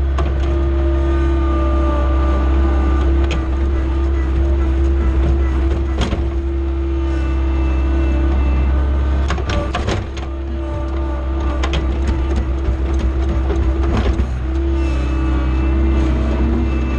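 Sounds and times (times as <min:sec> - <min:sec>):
diesel engine running with whine: 0:00.0 - 0:16.9.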